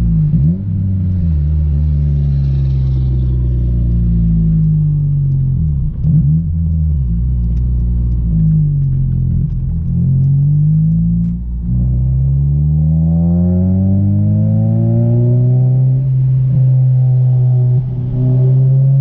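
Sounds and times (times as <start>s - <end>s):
car engine and exhaust while driving: 0.0s - 19.0s.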